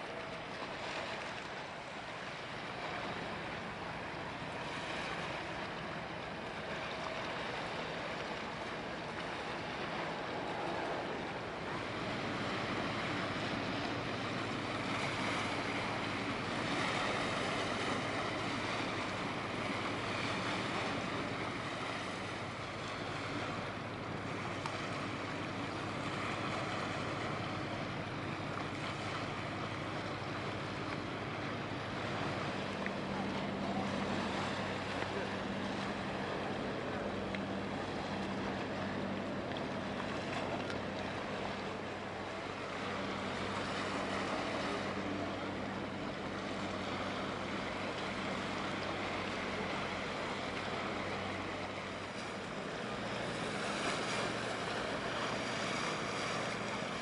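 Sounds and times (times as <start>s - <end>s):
low steady hum: 0.0s - 57.0s
wind and water noise: 0.0s - 57.0s.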